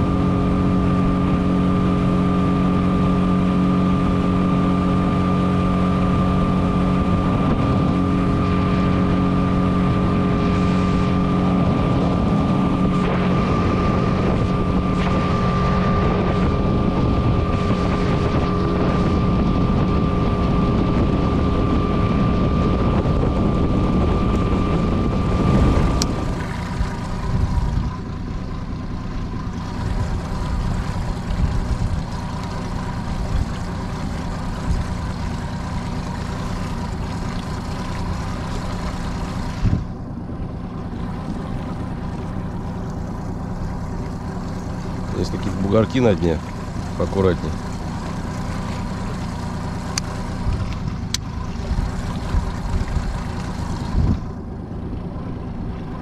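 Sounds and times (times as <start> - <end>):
outboard motor running: 0.0 - 56.0
wind buffeting microphone: 0.0 - 56.0.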